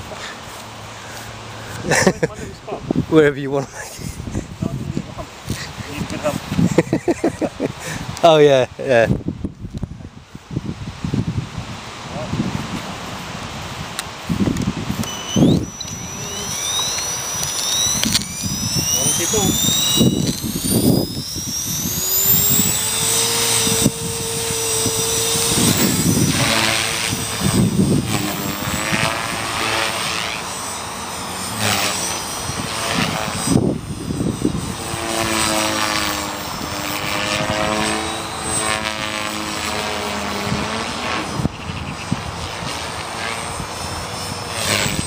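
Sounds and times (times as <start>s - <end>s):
rc helicopter rotor whine: 0.0s - 45.0s
wind buffeting microphone: 1.8s - 30.0s, 31.5s - 45.0s.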